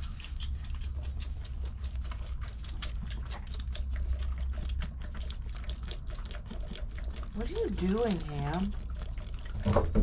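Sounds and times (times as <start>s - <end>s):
animals suckling on bottles: 0.0s - 10.0s.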